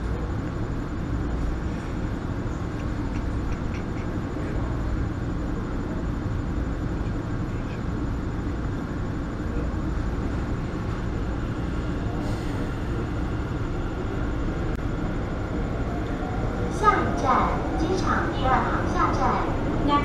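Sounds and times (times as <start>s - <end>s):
metro train rumbling: 0.0s - 20.0s.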